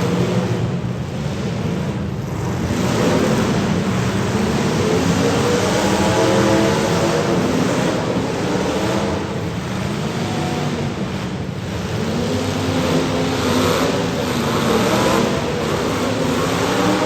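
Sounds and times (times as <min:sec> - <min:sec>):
car engines revving: 0:00.0 - 0:17.0
steady noisy rush: 0:00.0 - 0:17.0.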